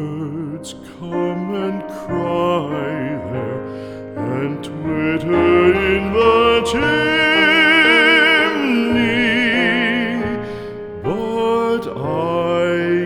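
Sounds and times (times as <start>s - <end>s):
classical singing with vibrato: 0.0s - 13.0s
soft musical accompaniment: 0.0s - 13.0s.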